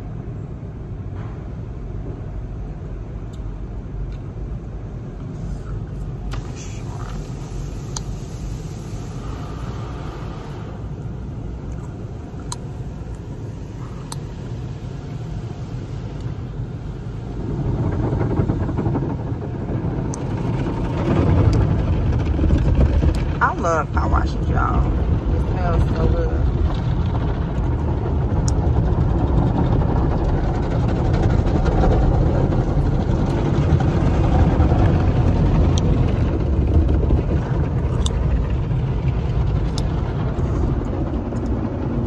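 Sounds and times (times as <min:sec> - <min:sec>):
car wash machinery rumbling: 0:00.0 - 0:42.0.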